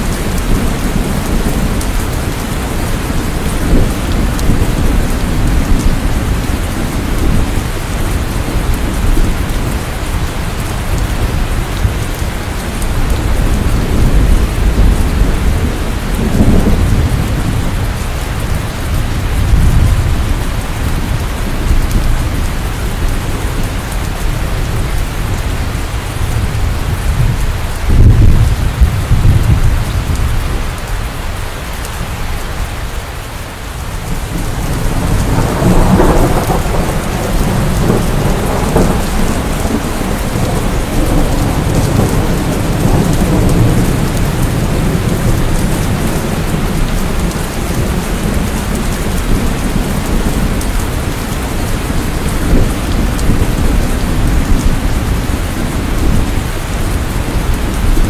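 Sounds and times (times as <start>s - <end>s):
rolling thunder: 0.0s - 30.9s, 33.8s - 58.0s
steady rain: 0.0s - 58.0s.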